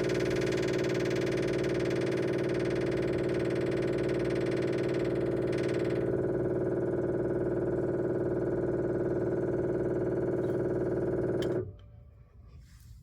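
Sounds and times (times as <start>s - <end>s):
electric fuel pump buzzing hum: 0.0s - 13.0s.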